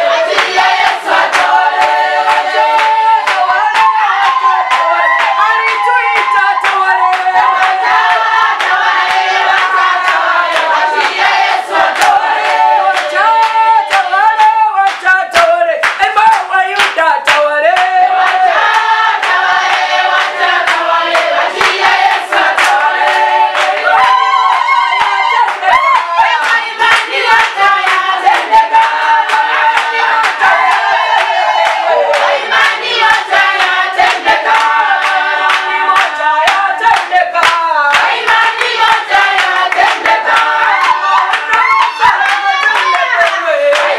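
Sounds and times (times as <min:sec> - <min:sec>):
congregation singing: 0:00.0 - 0:15.5, 0:17.2 - 0:43.9
hand clapping: 0:00.2 - 0:43.9.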